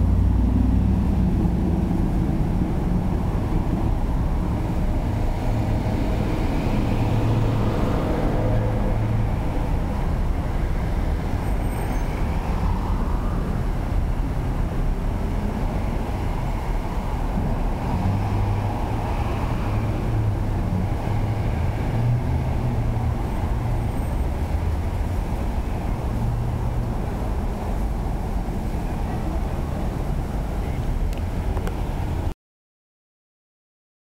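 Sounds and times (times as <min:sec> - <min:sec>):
cars driving past: 0:00.0 - 0:32.3.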